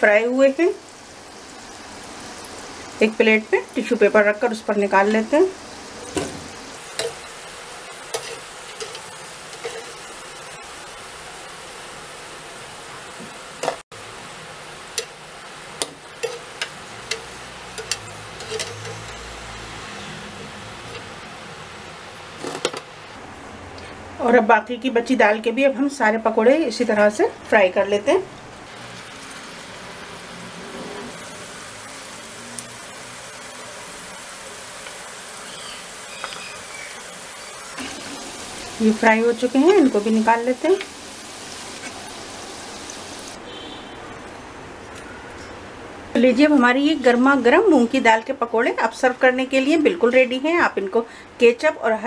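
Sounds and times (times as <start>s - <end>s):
deep-frying sizzle in oil: 0.0s - 23.2s, 24.3s - 44.4s.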